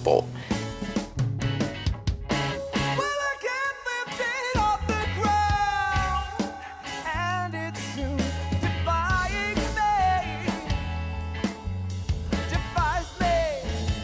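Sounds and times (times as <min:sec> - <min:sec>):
rock music: 0:01.2 - 0:14.0.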